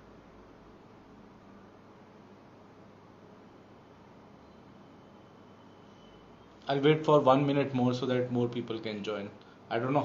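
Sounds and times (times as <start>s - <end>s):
faint high whine: 0.0s - 10.0s
microphone hiss: 0.0s - 10.0s.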